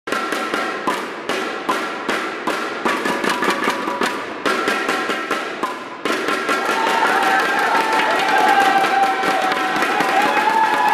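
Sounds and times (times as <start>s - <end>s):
sharp percussion beat: 0.1s - 10.9s
stadium cheer music: 0.1s - 10.9s.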